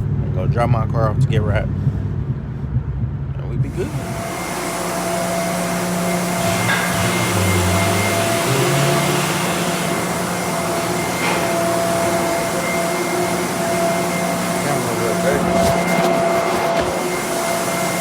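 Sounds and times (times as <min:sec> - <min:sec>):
blower rushing air and hum: 0:00.0 - 0:18.0.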